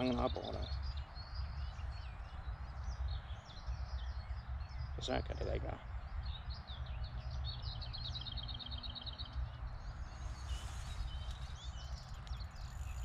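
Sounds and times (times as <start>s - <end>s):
songbirds singing: 0.0s - 13.0s
steady low rumble: 0.0s - 13.0s.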